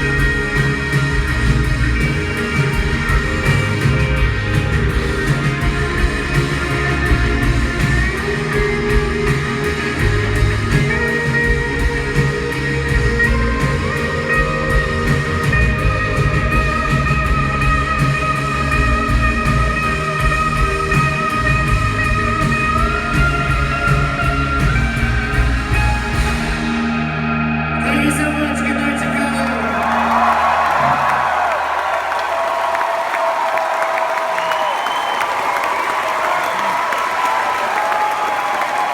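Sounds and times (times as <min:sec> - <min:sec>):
steady drum beat: 0:00.0 - 0:27.0, 0:29.5 - 0:34.4
guitars playing: 0:00.0 - 0:31.9.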